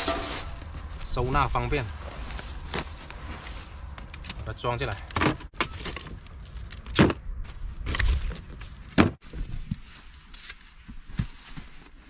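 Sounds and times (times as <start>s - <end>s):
rustling and shuffling: 0.0s - 12.0s.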